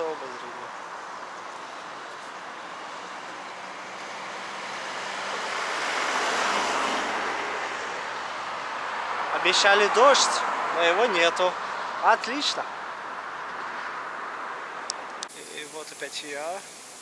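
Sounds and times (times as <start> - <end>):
tyre hiss of traffic: 0.0 - 17.0
vehicle passing close: 0.8 - 15.3.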